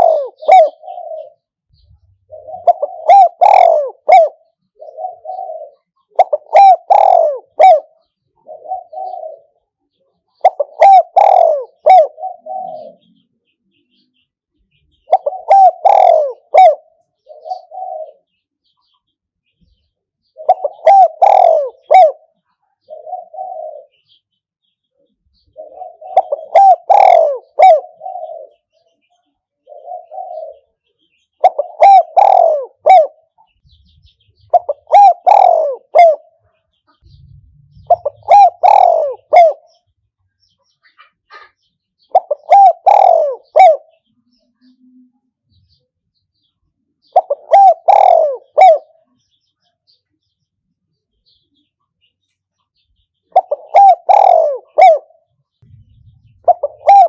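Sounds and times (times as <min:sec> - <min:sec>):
dove cooing: 0:00.0 - 0:13.3, 0:14.9 - 0:18.4, 0:20.2 - 0:24.2, 0:25.0 - 0:40.0, 0:40.9 - 0:45.8, 0:47.0 - 0:49.2, 0:53.3 - 0:57.0.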